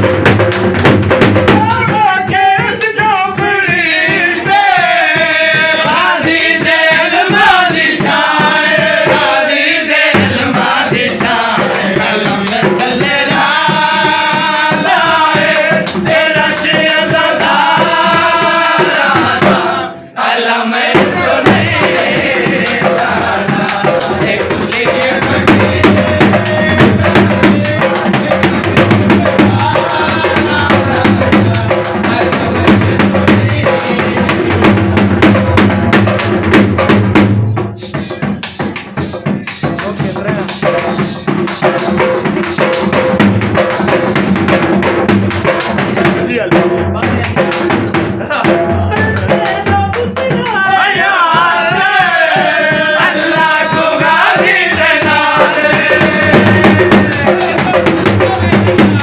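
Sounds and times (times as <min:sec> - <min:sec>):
dhol drumming: 0:00.0 - 0:59.0
devotional singing: 0:01.5 - 0:36.2, 0:45.4 - 0:59.0.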